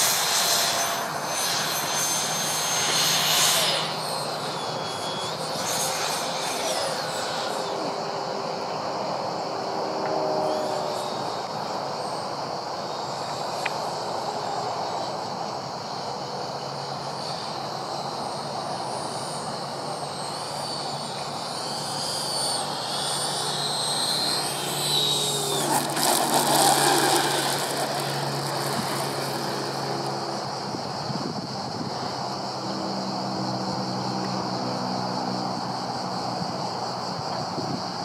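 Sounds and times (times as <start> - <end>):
model jet fan whine: 0.0 - 38.0.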